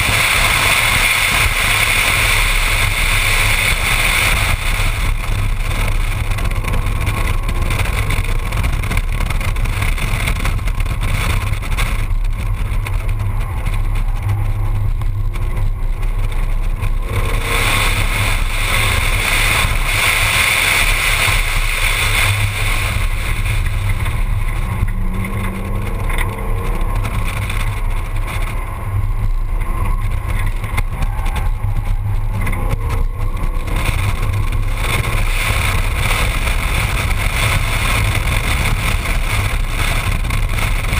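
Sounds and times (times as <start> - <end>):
car engine and road noise: 0.0 - 40.9
wind rushing over camera: 0.0 - 40.9.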